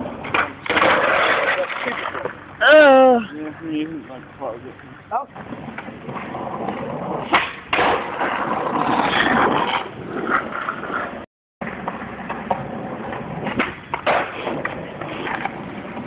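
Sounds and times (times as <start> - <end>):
skateboard clacks: 0.0 - 2.4, 5.5 - 16.0
skateboard wheels rolling on asphalt: 0.0 - 2.6, 4.9 - 16.0.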